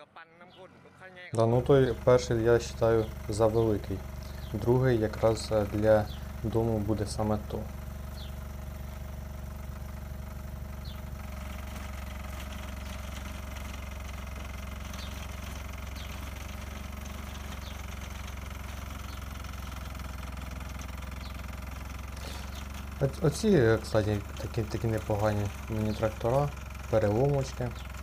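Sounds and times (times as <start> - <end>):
tractor engine running: 0.5 - 28.0.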